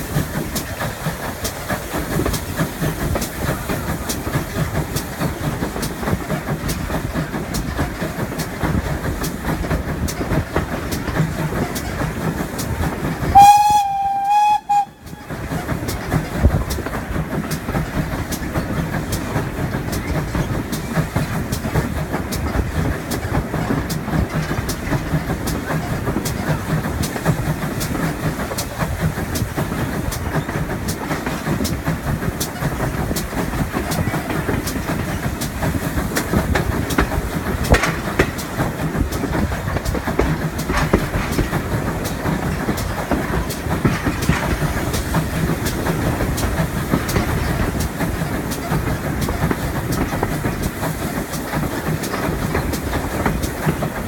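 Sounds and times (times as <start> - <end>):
steam train rumble: 0.0 - 54.0
wheels clattering over rail joints: 0.0 - 54.0.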